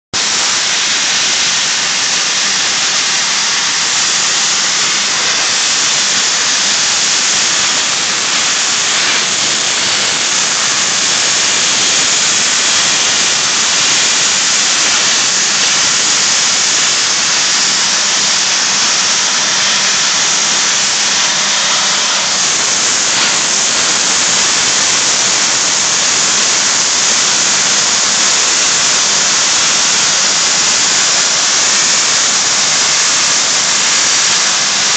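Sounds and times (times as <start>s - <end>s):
loud high air blast hiss: 0.2s - 34.9s.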